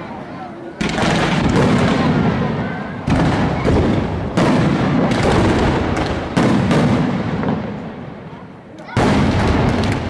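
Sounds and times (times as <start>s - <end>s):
firework crackle: 0.0s - 10.0s
loud firework bangs: 0.8s - 10.0s.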